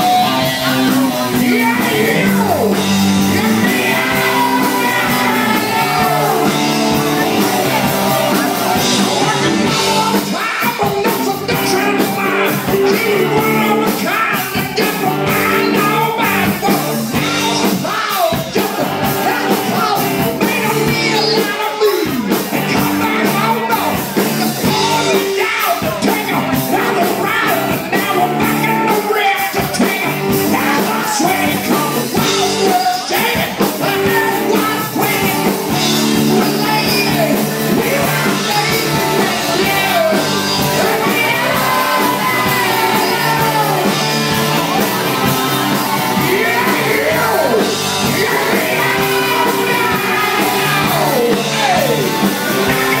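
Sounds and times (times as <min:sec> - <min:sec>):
drums: 0:00.0 - 0:53.0
lead singer singing: 0:00.0 - 0:53.0
live band playing: 0:00.0 - 0:53.0.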